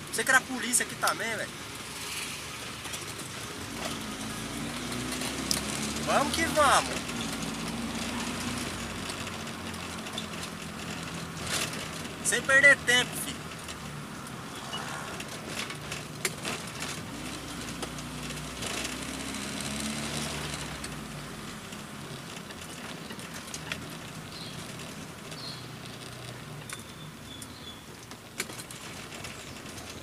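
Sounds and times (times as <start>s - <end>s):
light clicks and rattles: 2.6s - 30.0s.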